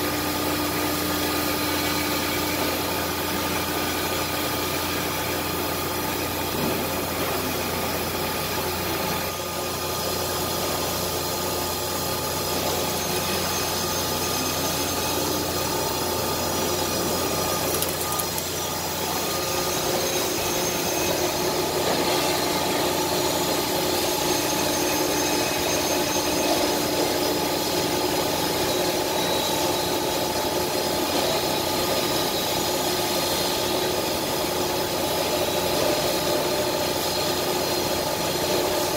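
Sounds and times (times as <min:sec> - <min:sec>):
cnc router humming: 0:00.0 - 0:38.9.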